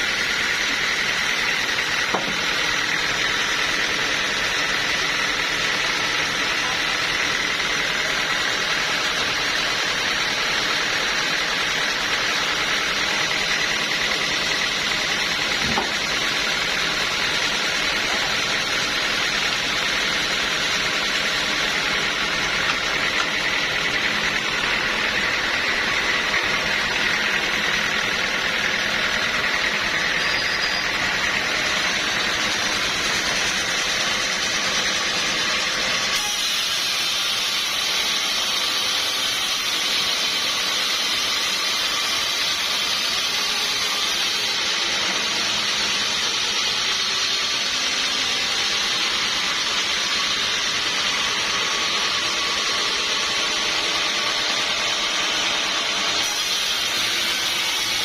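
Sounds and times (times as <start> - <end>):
saw cutting through log: 0.0 - 58.0.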